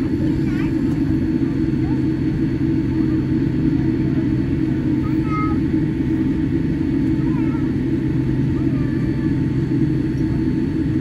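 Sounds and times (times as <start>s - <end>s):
airliner cabin low rumble: 0.0s - 11.0s.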